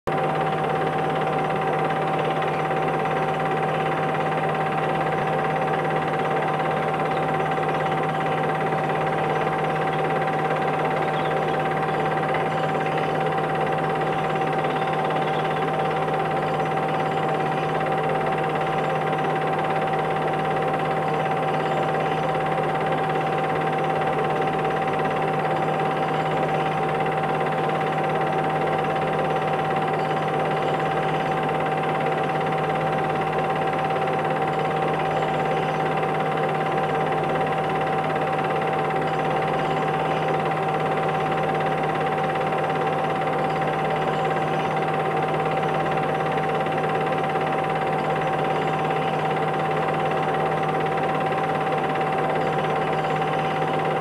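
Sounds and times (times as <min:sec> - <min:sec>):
film projector whirring: 0:00.1 - 0:54.0.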